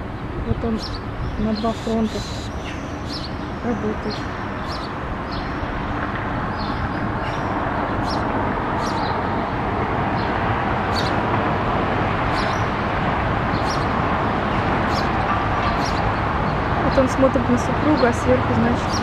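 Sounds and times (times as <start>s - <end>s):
sparrow chirping: 0.0s - 5.8s, 6.5s - 9.3s, 10.1s - 11.3s, 12.2s - 19.0s
traffic noise: 0.0s - 19.0s.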